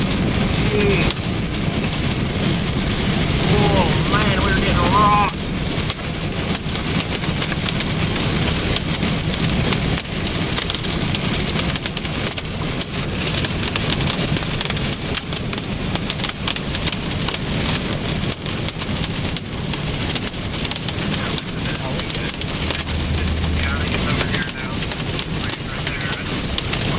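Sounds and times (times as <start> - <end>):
hailstones clattering on vehicle roof: 0.0 - 26.9
wind and rain: 0.0 - 26.9.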